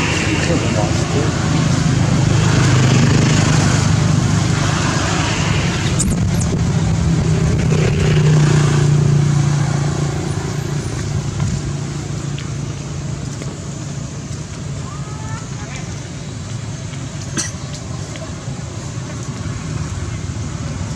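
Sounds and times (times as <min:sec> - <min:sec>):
vehicle engine humming: 0:00.0 - 0:20.9.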